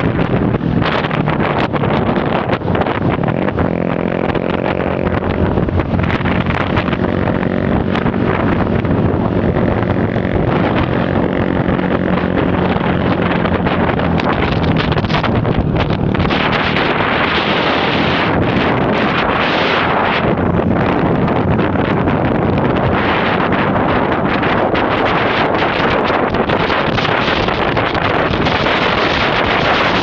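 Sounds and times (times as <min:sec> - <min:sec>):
vehicle engine running: 0:00.0 - 0:30.0
wind buffeting microphone: 0:00.0 - 0:30.0.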